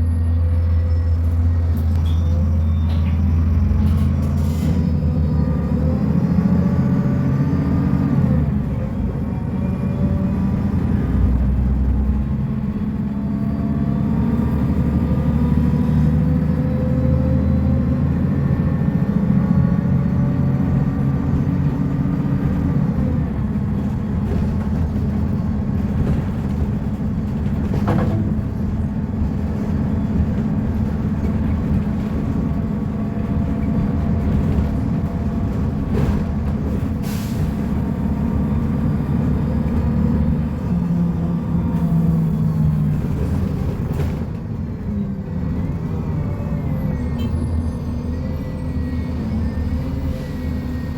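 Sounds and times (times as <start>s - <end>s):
bus engine low rumble: 0.0s - 50.9s.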